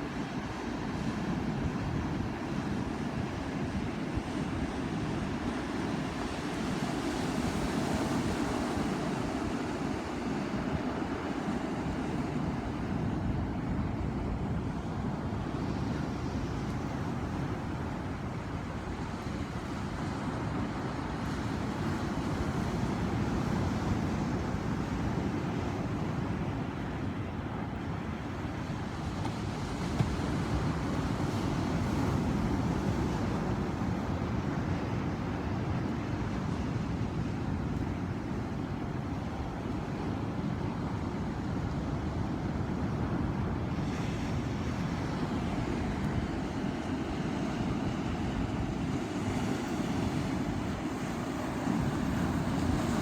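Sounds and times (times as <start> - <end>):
ocean surf rushing: 0.0 - 53.0.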